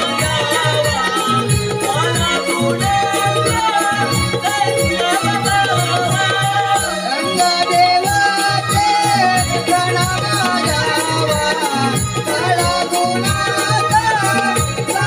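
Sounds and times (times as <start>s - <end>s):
high held melody line: 0.0s - 15.0s
jingling percussion: 0.0s - 15.0s
steady drum beat: 0.0s - 15.0s.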